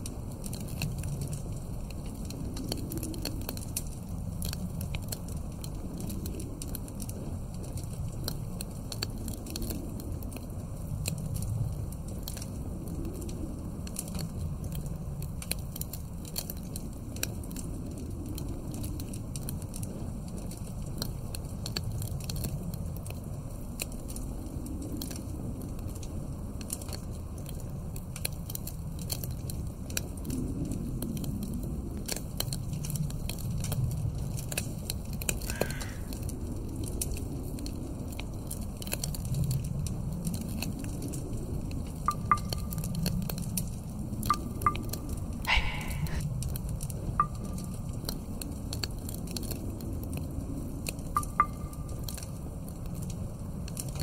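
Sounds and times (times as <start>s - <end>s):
log fire crackling and popping: 0.0s - 54.0s
low wind gusts: 0.0s - 54.0s.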